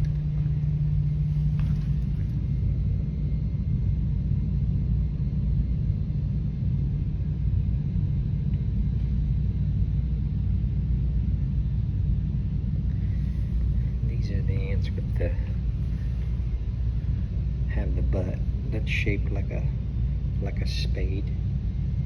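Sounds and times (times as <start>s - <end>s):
low bass rumble: 0.0s - 22.0s.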